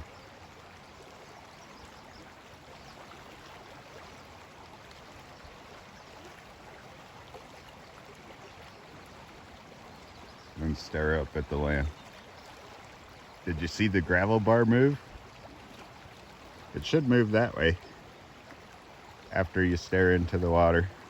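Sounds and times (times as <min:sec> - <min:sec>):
river rushing and bubbling: 0:00.0 - 0:21.0.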